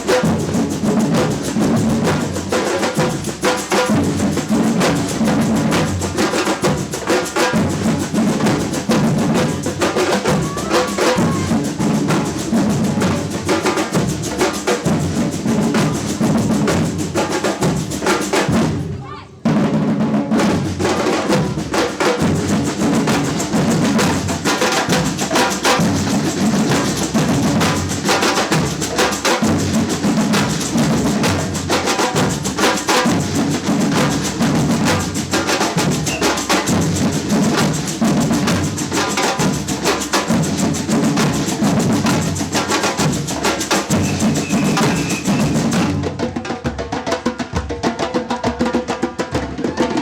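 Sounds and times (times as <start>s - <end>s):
snare and hand percussion: 0.0s - 50.0s.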